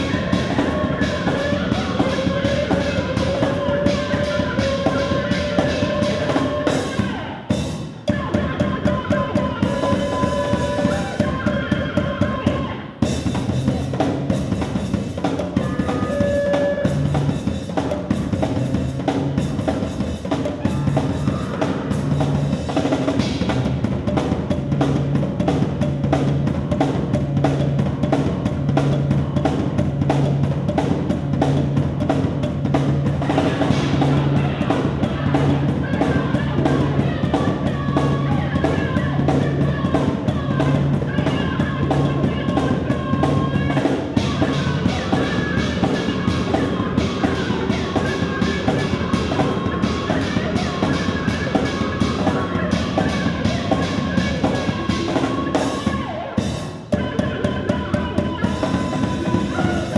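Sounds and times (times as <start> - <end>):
drum kit played fast: 0.0 - 59.9.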